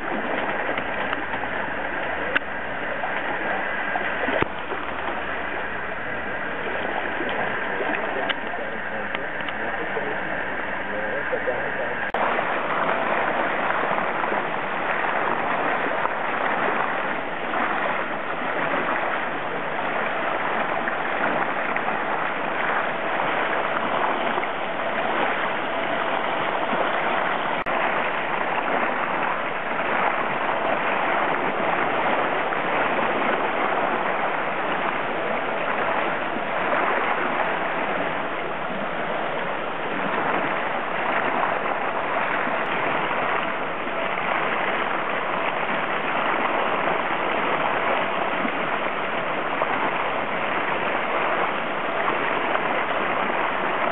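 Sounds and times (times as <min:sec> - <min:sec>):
faint steady hum: 0:00.0 - 0:53.9
water churning and splashing: 0:00.0 - 0:53.9.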